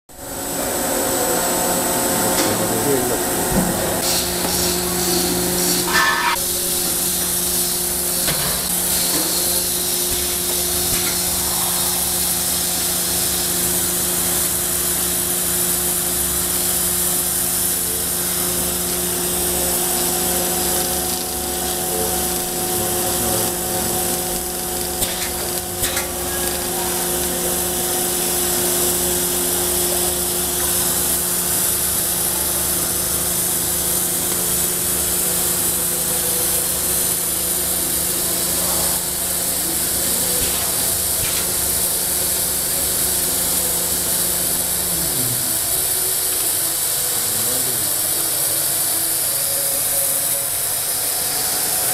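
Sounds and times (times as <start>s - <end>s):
machine whirring and rubbing: 2.0s - 32.2s, 34.0s - 47.2s.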